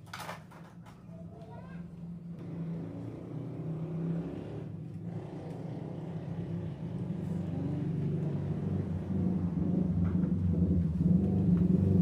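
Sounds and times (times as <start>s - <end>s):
engine humming: 0.8s - 12.0s.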